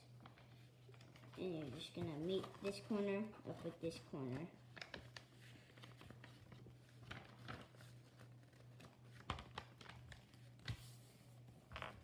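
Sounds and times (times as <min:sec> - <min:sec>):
paper rustling and creasing: 0:00.1 - 0:12.0.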